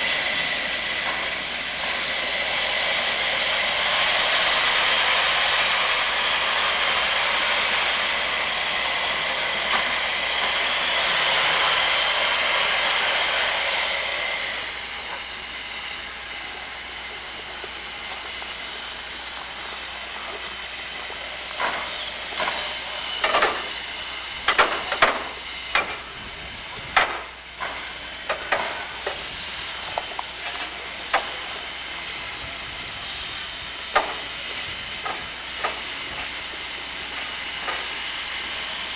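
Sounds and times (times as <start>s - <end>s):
loud steam hiss: 0.0s - 38.9s.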